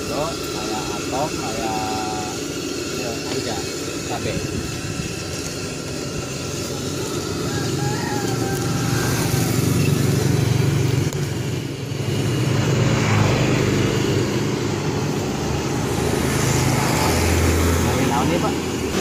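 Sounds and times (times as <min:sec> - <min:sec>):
motorcycle engine running: 0:00.0 - 0:19.0
street traffic: 0:00.0 - 0:19.0.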